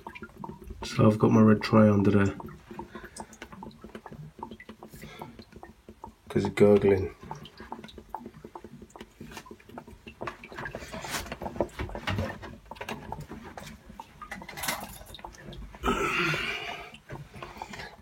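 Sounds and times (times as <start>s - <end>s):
boiler gurgling and spluttering: 0.0s - 18.0s.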